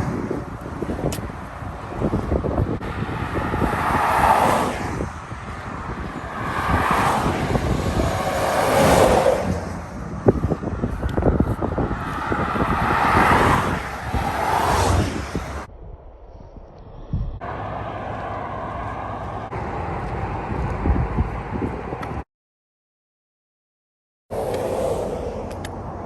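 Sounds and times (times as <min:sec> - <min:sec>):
cars and trucks passing: 0:00.0 - 0:15.7, 0:17.4 - 0:22.2, 0:24.3 - 0:26.0
wind buffeting microphone: 0:00.0 - 0:22.2.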